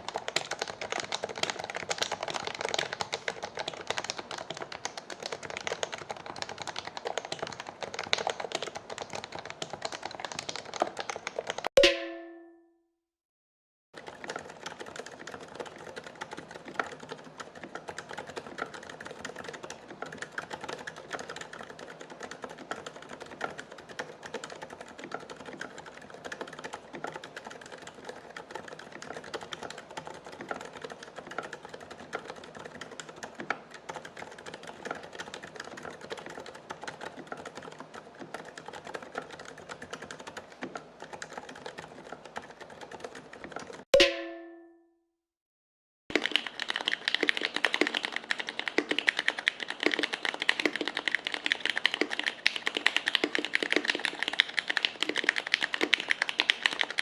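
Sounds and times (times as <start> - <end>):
computer keyboard typing: 0.0 - 12.5, 14.0 - 44.7, 46.1 - 57.0.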